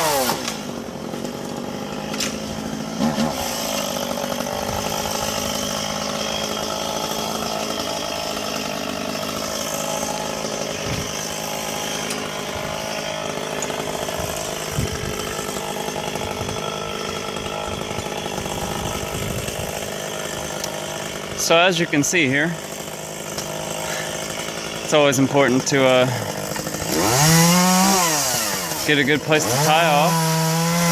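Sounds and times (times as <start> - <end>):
chainsaw engine running: 0.0 - 30.9.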